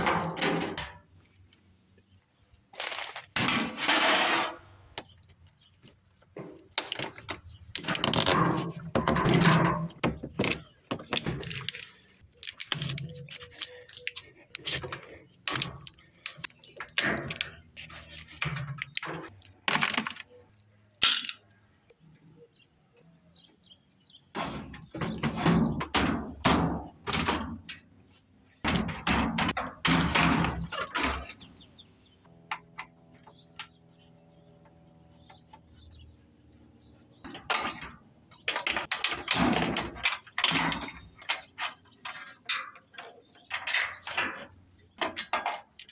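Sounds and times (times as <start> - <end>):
metal and plastic parts clanking: 0.0 - 1.2, 2.8 - 5.2, 6.4 - 21.5, 24.4 - 33.8, 37.2 - 45.9.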